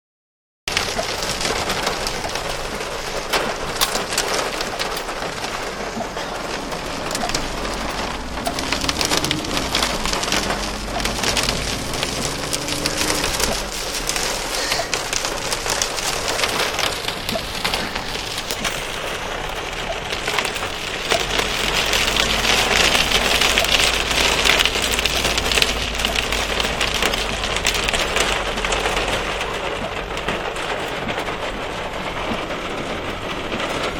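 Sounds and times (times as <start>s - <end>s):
heavy rain on hard surfaces: 0.7s - 33.9s
deep rumble: 1.0s - 33.9s.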